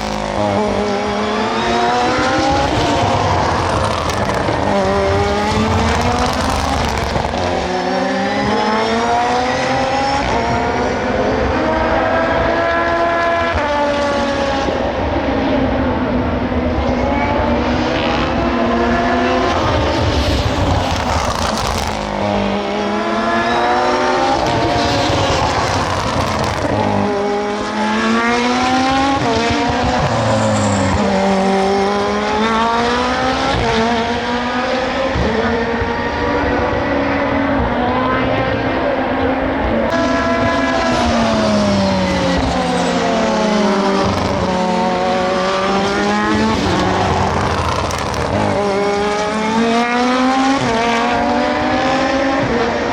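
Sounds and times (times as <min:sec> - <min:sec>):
racing car engines passing: 0:00.0 - 0:52.9.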